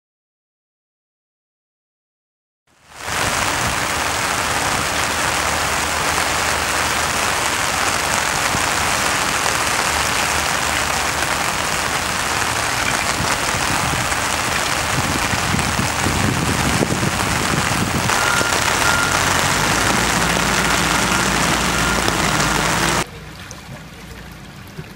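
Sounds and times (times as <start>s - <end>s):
heavy rain: 2.7s - 23.1s.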